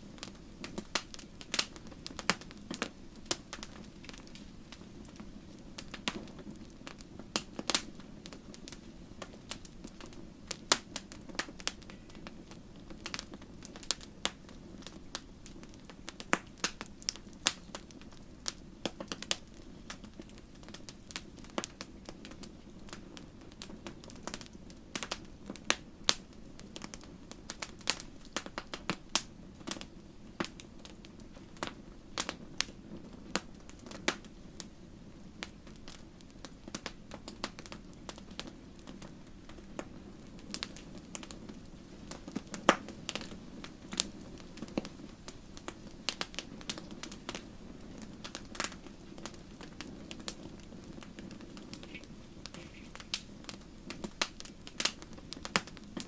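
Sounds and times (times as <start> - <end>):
wood campfire crackling: 0.0 - 56.0.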